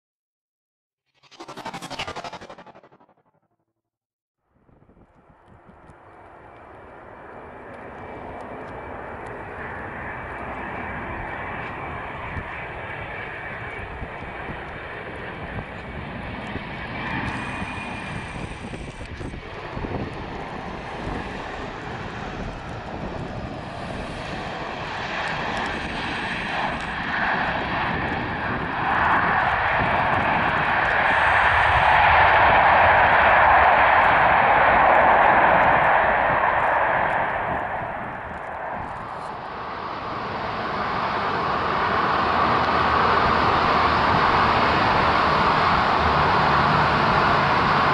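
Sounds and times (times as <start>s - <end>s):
jet engines rumbling with high whine: 1.2s - 3.6s, 4.5s - 47.9s.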